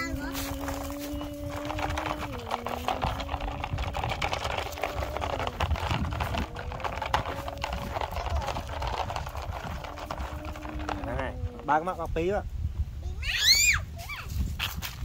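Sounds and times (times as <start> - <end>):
toy truck rattling over gravel: 0.0 - 12.1.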